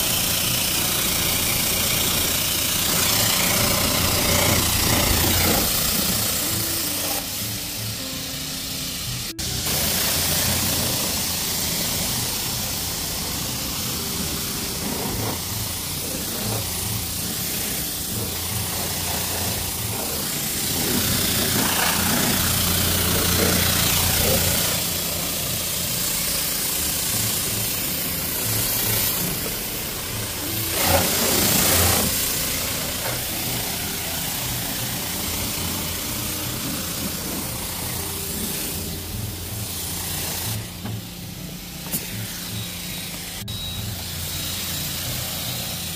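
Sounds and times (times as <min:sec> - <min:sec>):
high-pressure spray hissing: 0:00.0 - 0:45.9.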